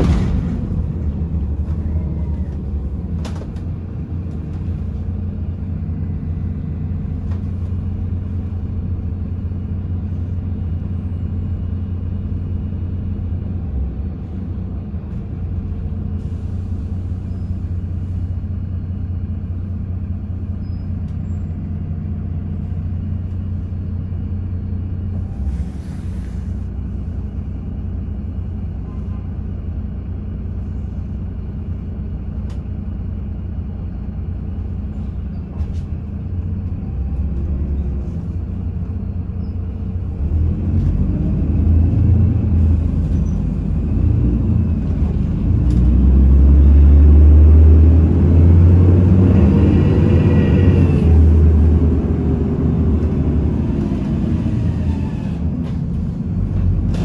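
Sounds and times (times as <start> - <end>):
bus engine: 0.0 - 57.0.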